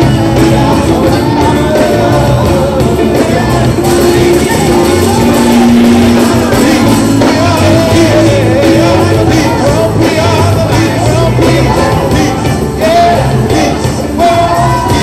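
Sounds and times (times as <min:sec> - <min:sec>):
live band music: 0:00.0 - 0:15.0
several voices singing: 0:00.0 - 0:15.0.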